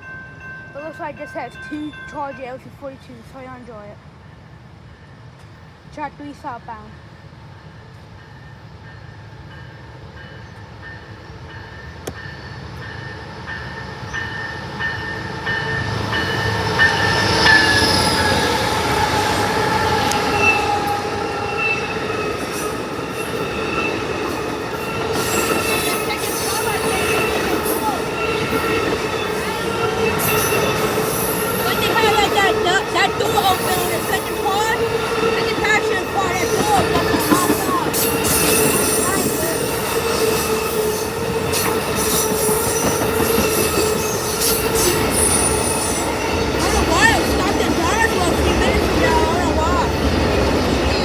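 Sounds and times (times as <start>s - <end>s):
passenger train passing: 0.0s - 51.0s
steel wheels squealing on rails: 7.0s - 51.0s.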